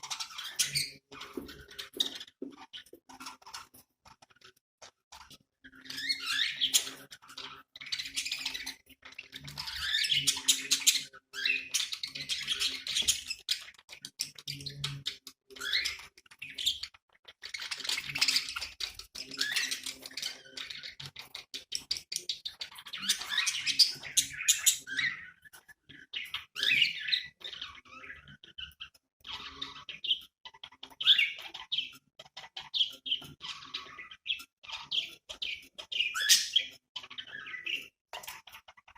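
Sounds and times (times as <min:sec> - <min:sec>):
budgies chattering and warbling: 0:00.0 - 0:38.9.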